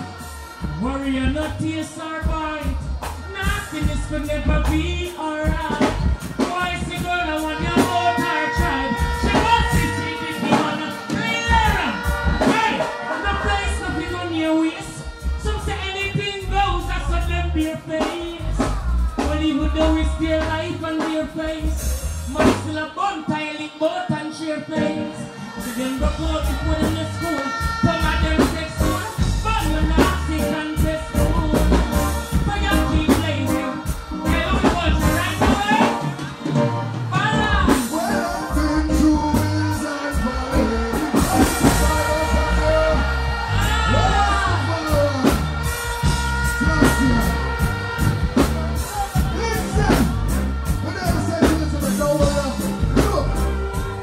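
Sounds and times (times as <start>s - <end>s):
man singing and chanting: 0.0s - 36.1s, 37.2s - 53.5s
heavy bass and drum rhythm: 0.0s - 54.0s.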